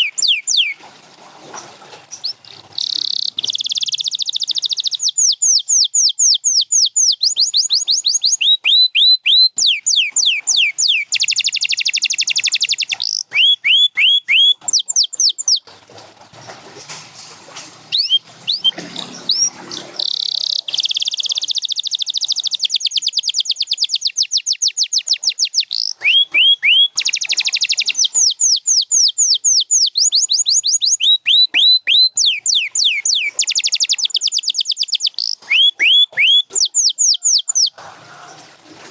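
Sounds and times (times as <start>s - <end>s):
canary singing trills: 0.0s - 0.8s, 2.1s - 15.7s, 17.9s - 38.4s.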